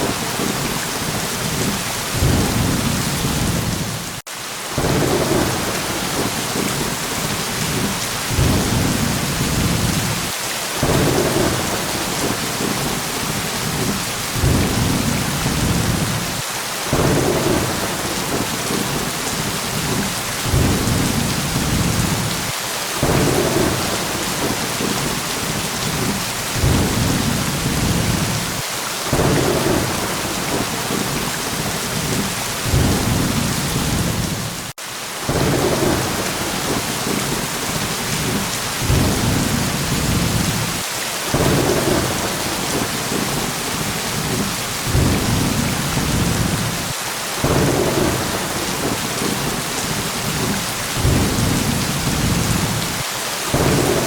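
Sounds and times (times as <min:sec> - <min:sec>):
rolling thunder rumbles: 0:00.0 - 0:04.2, 0:04.8 - 0:34.7, 0:35.3 - 0:54.0
heavy rain hissing: 0:00.0 - 0:54.0.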